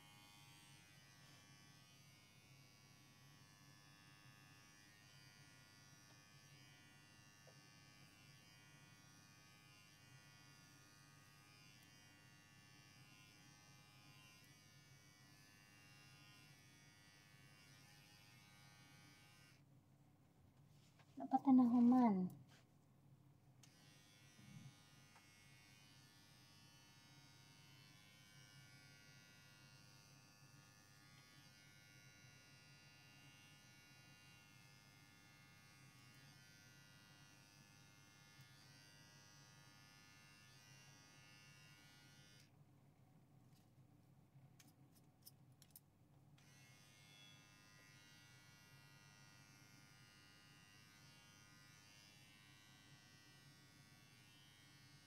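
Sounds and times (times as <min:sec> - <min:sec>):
electric hair clippers buzzing: 0:00.0 - 0:19.6, 0:23.6 - 0:42.5, 0:46.4 - 0:55.0.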